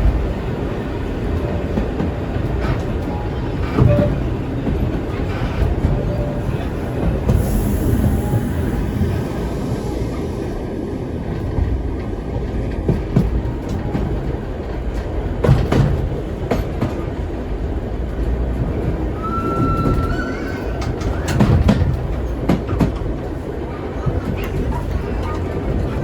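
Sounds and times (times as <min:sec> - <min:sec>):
wheels clacking over rail joints: 0:00.0 - 0:08.4, 0:11.4 - 0:26.0
tram carriages rumbling: 0:00.0 - 0:26.0.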